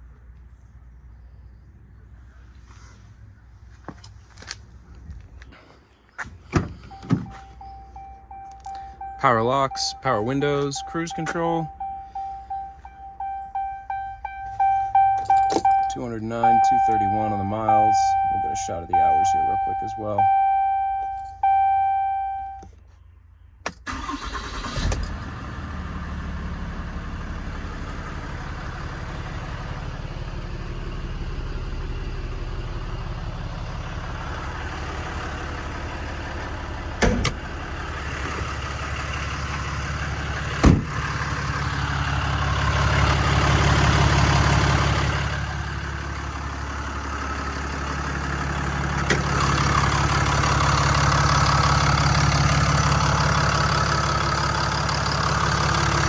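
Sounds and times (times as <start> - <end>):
diesel engine starting and idling: 4.7 - 56.0.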